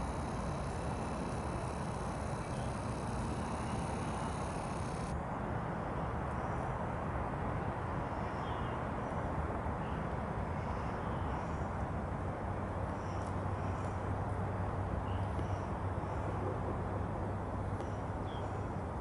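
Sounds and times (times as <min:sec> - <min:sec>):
outdoor background rush: 0:00.0 - 0:19.0.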